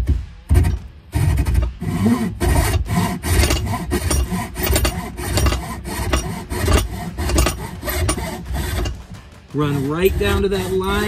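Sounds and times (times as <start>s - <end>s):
hand saw rasping through wood: 0.5s - 11.0s.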